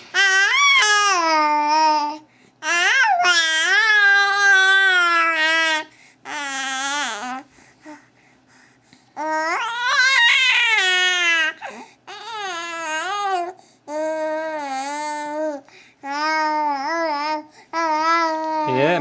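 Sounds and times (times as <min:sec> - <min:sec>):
baby wailing: 0:00.1 - 0:07.4, 0:09.2 - 0:19.0.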